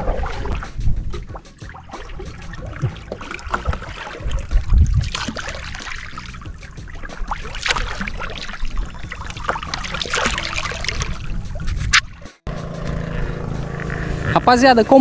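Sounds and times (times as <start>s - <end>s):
water trickling off paddle: 0.0s - 12.1s
paddle pulling through water: 0.0s - 12.3s
water splashing: 0.0s - 12.4s.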